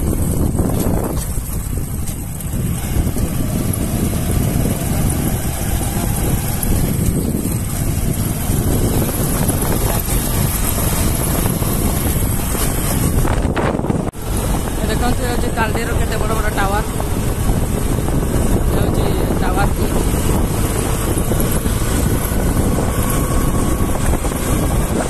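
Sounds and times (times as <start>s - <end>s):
motorcycle engine running: 0.0s - 25.0s
road noise: 0.0s - 25.0s
wind buffeting microphone: 0.0s - 25.0s.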